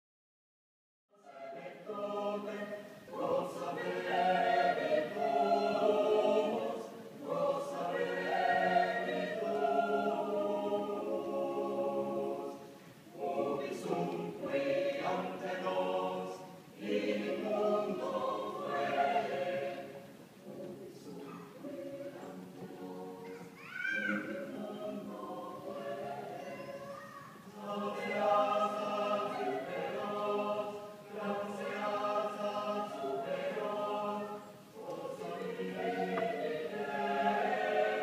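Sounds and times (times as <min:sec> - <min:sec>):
mixed choir singing a cappella: 0:01.1 - 0:38.0.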